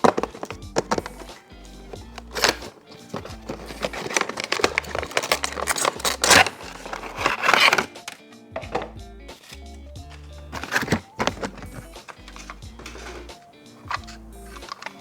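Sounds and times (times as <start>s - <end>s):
background music: 0.0s - 15.0s
packaging clicks: 0.0s - 15.0s
plastic and cardboard rustling: 0.0s - 15.0s.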